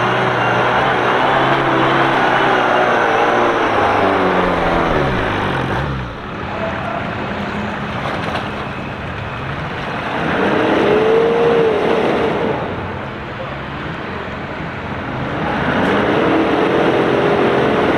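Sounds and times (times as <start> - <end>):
four-wheel drive engine revving: 0.0 - 17.9
off-road vehicle engine slowing: 0.0 - 17.9.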